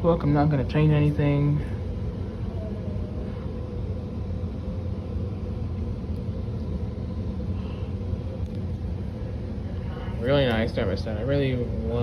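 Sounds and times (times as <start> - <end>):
faint hum: 0.0 - 12.0
low background rumble: 0.0 - 12.0.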